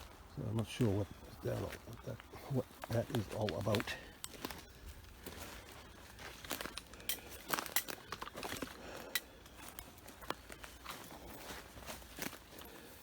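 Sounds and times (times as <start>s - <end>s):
footsteps crunching on rough ground: 0.0s - 13.0s.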